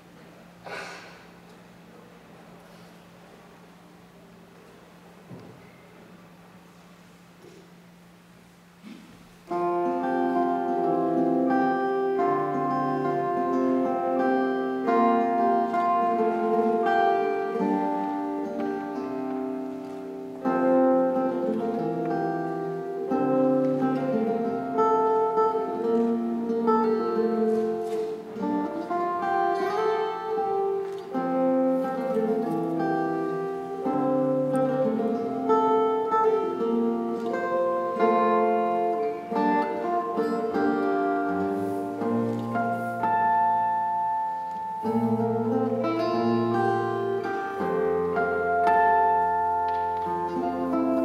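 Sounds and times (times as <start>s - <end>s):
fingerstyle acoustic guitar: 0.0s - 51.0s.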